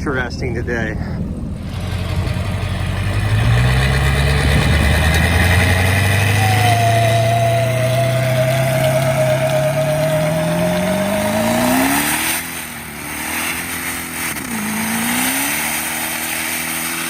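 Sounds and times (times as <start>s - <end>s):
high whine: 0.0s - 15.2s
car engine running: 0.0s - 17.0s.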